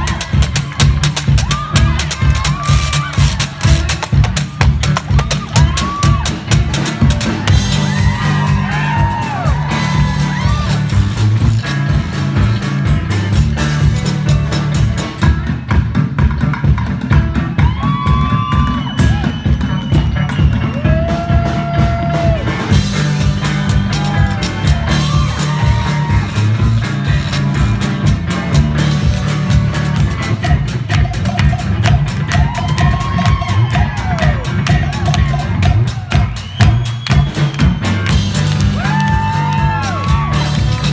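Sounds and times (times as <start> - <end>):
fast steady drum beat: 0.0 - 40.9.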